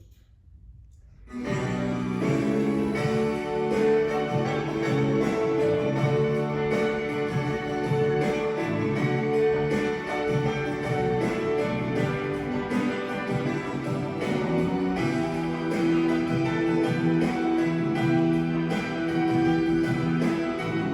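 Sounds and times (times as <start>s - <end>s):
instrumental music: 1.4s - 20.9s.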